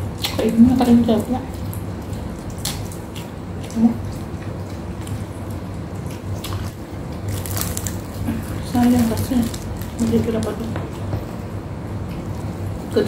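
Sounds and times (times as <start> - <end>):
chewing with lip smacks: 0.0 - 11.2
low steady hum: 0.0 - 13.0.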